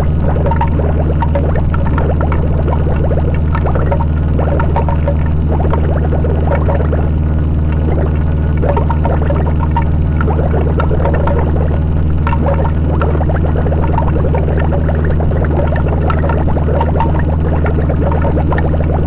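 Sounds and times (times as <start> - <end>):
bubbling gurgling warbles: 0.0 - 19.0
scattered clicks: 0.3 - 7.0, 7.7 - 19.0.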